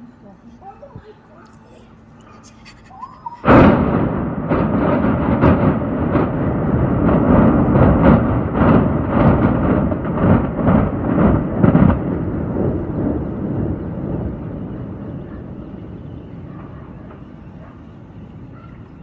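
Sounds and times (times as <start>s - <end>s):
deep rumble of building collapsing: 3.4s - 19.0s.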